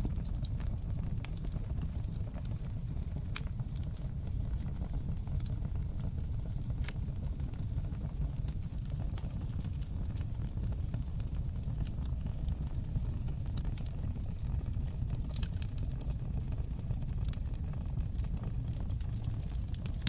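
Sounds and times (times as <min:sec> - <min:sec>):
fire crackling in fireplace: 0:00.0 - 0:20.0.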